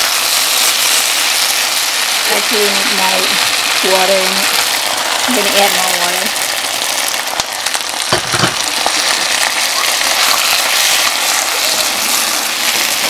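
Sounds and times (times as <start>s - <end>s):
stir-fry sizzling in a pan: 0.0s - 13.0s.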